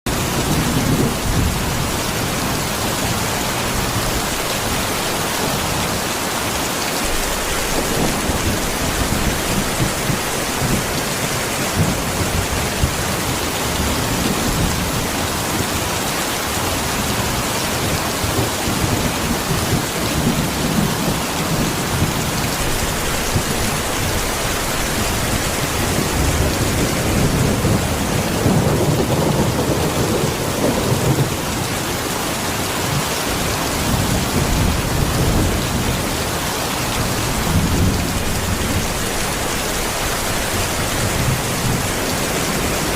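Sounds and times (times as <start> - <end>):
heavy rain pouring: 0.1 - 42.9.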